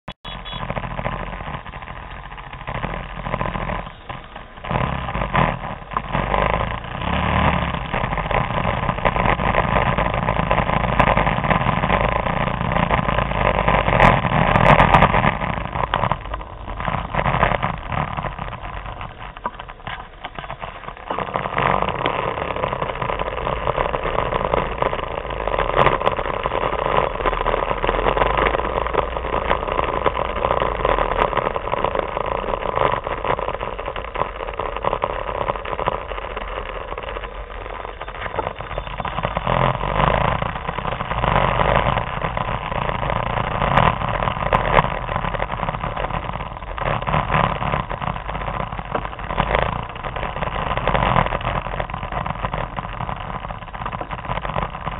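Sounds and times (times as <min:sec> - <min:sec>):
group of scooter engines: 0:00.0 - 0:54.9.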